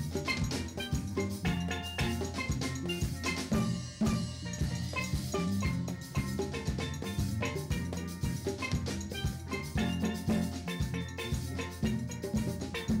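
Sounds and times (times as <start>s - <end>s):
conga drum and percussion: 0.0s - 13.0s
steel pans ringing: 0.0s - 13.0s.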